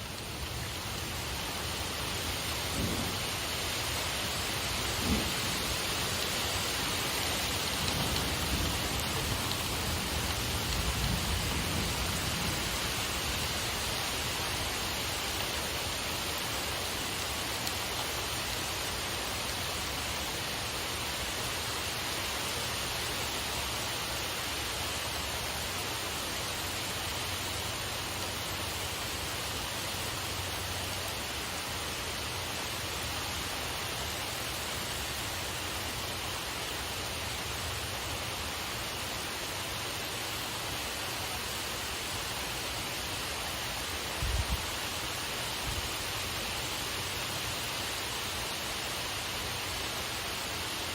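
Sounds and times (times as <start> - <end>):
rain shower hissing: 0.0 - 50.9.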